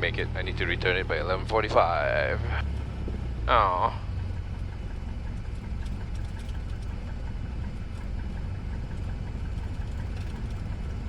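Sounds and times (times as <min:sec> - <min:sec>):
light aircraft engine in cabin: 0:00.0 - 0:11.0.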